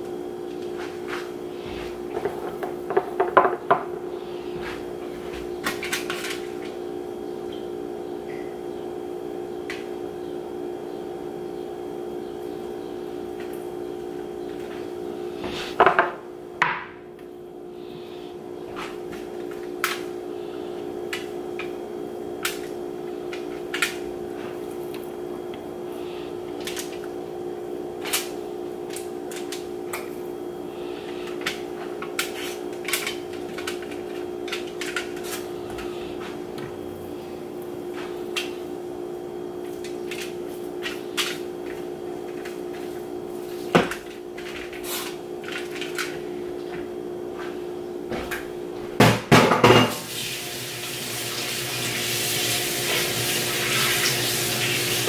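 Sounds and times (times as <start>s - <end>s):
kitchen appliance humming: 0.0s - 55.0s.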